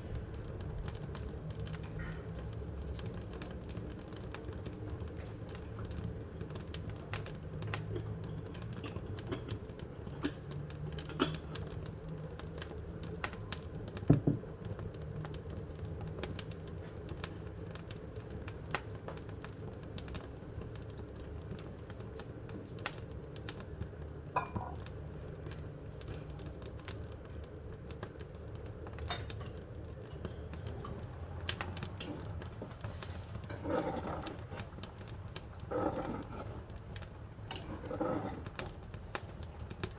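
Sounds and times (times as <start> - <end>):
wood fire crackling in a stove: 0.0 - 39.9.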